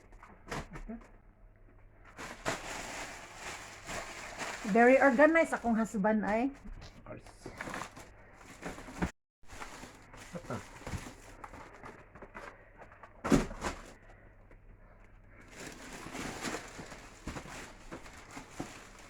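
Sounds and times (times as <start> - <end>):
frozen food packages rustling: 2.0 - 6.5, 7.1 - 14.4, 15.0 - 19.0.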